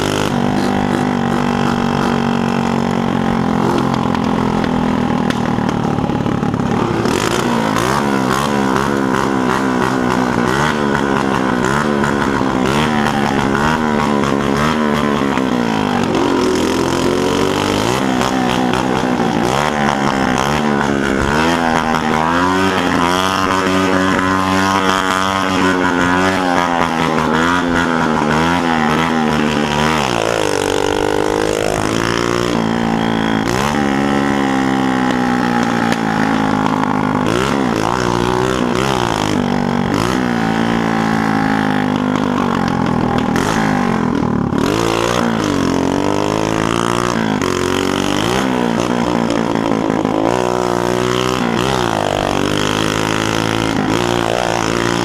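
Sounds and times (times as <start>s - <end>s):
small motorcycle engine revving: 0.0s - 55.0s.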